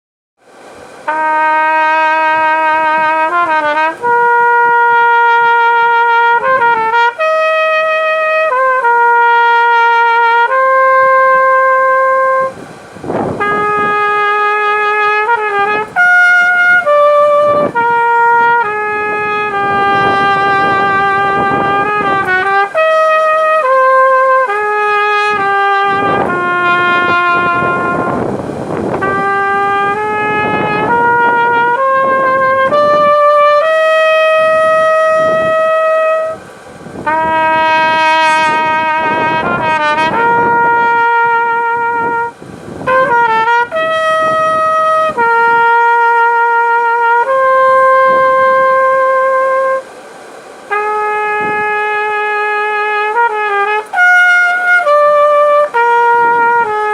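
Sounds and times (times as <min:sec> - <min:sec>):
brassy wind instrument melody: 0:00.5 - 0:56.9.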